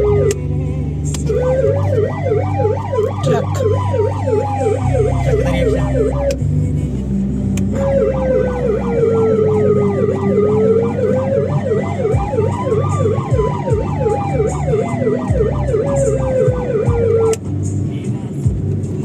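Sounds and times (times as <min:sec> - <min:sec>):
warbling police siren: 0:00.0 - 0:00.4, 0:01.2 - 0:06.4, 0:07.7 - 0:17.4.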